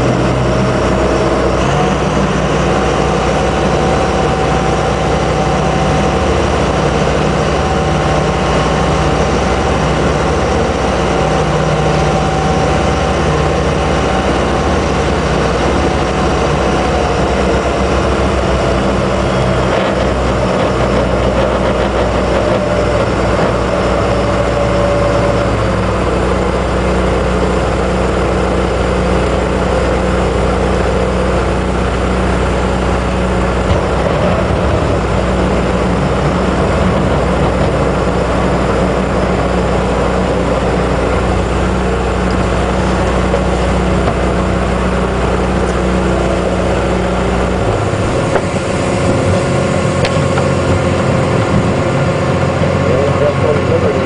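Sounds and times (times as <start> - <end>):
boat engine running: 0.0 - 54.0
water rushing around hull: 0.0 - 54.0
wind: 0.0 - 54.0.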